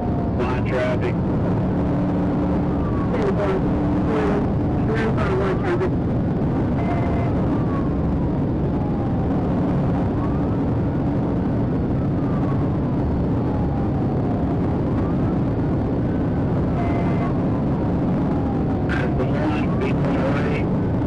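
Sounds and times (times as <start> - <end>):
police siren wailing: 0.0 - 21.0
road wind and engine noise: 0.0 - 21.0.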